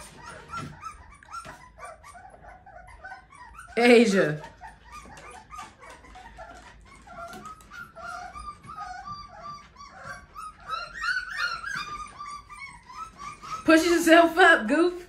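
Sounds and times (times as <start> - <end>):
dog whimpering: 0.0 - 15.0.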